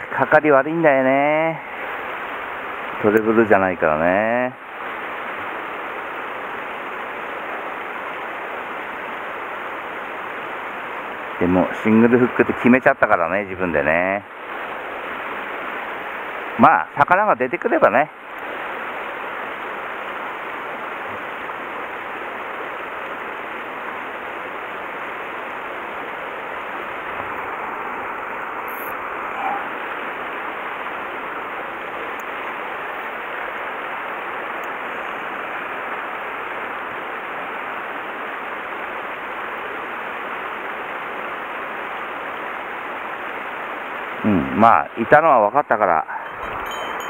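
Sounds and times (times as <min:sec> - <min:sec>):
stream water rushing: 0:00.0 - 0:47.0.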